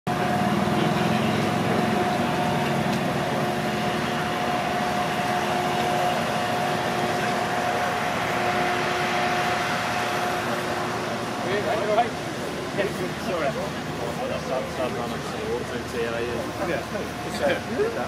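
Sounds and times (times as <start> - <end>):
machine drone with hum: 0.1 - 18.0.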